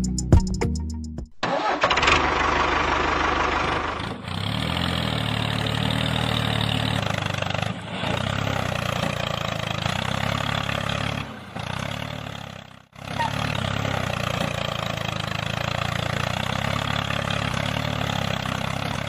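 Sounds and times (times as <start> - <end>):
tractor engine running: 1.4 - 19.0.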